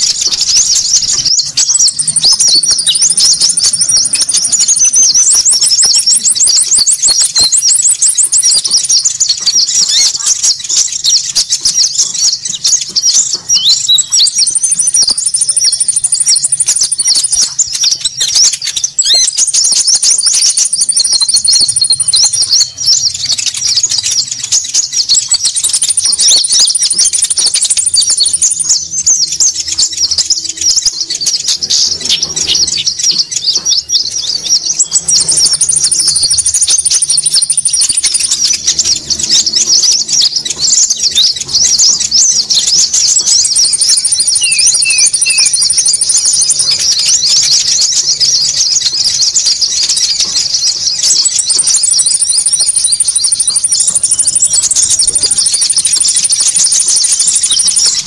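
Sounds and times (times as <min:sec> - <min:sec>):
birds chattering calls: 0:00.0 - 0:58.0
high bird trill: 0:00.0 - 0:58.0.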